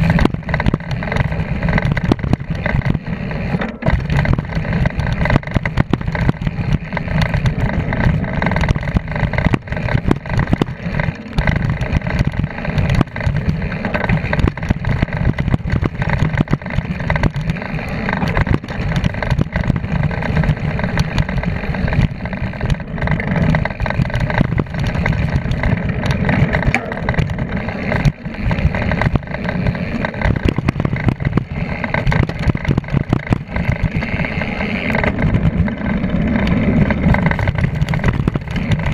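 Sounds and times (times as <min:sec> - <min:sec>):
bike rattling over bumps: 0:00.0 - 0:38.9
wind and tyre rumble: 0:00.0 - 0:38.9.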